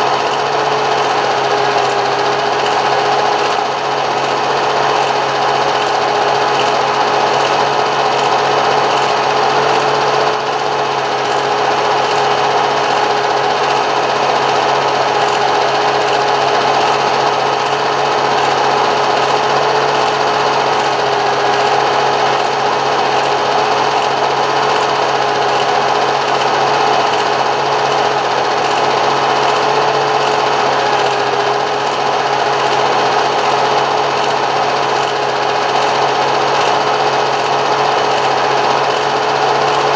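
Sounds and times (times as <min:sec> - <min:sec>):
small machine humming and whirring: 0:00.0 - 0:39.9.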